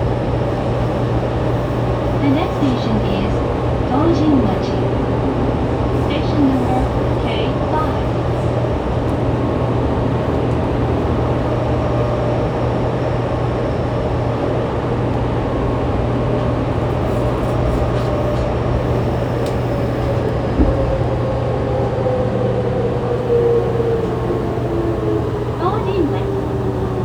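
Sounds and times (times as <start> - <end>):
train running rumble and hum: 0.0 - 27.0.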